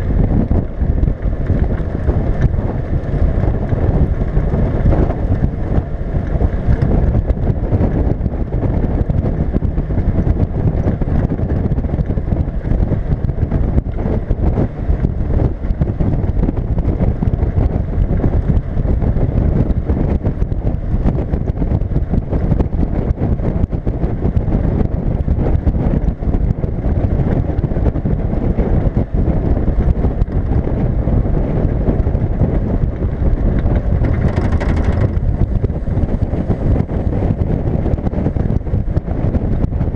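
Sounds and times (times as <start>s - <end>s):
car engine running: 0.0s - 39.9s
road noise: 0.0s - 39.9s
wind buffeting microphone: 0.0s - 39.9s.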